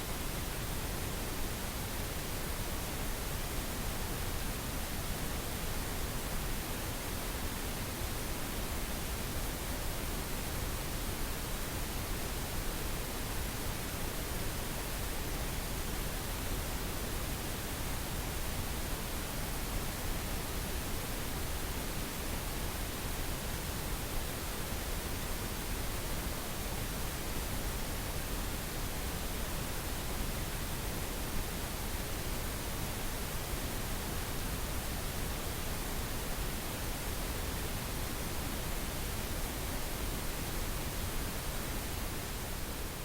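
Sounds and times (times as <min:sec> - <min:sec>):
pink noise hiss: 0:00.0 - 0:43.0.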